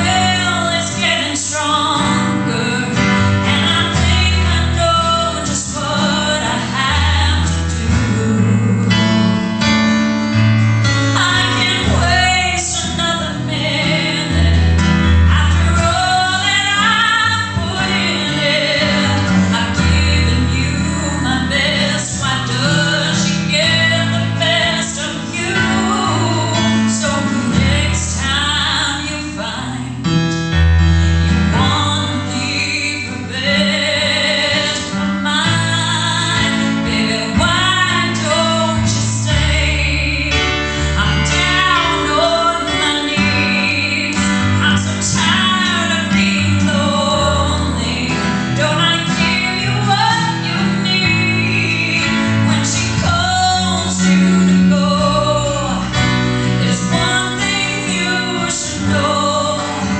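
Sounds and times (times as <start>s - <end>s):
woman singing with vibrato: 0.0s - 10.0s, 11.0s - 30.2s, 31.4s - 59.9s
guitar: 0.0s - 59.9s
keyboard: 0.0s - 59.9s.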